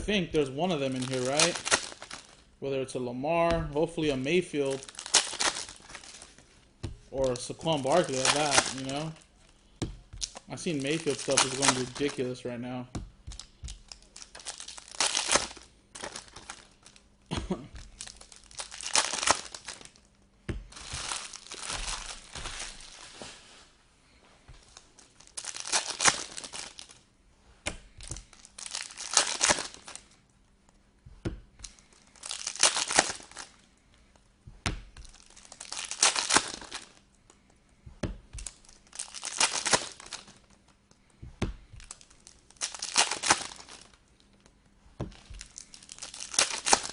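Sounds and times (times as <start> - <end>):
wrappers torn and crinkled: 0.4 - 2.5, 3.8 - 12.5, 13.2 - 23.4, 24.6 - 27.0, 28.0 - 30.2, 31.6 - 34.3, 35.0 - 37.5, 38.3 - 41.0, 41.7 - 46.9.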